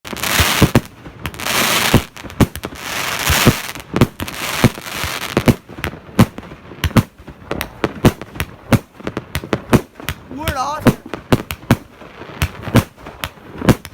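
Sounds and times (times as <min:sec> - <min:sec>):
firework bangs: 0:00.1 - 0:13.9
firework crackling hiss: 0:00.1 - 0:13.9.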